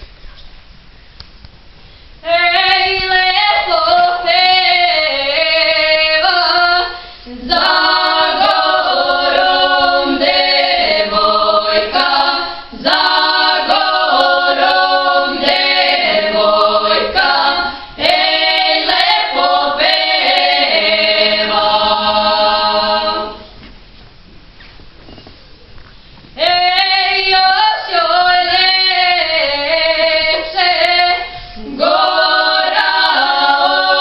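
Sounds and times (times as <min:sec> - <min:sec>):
vocal group singing a cappella: 0:02.2 - 0:23.6, 0:26.4 - 0:34.0.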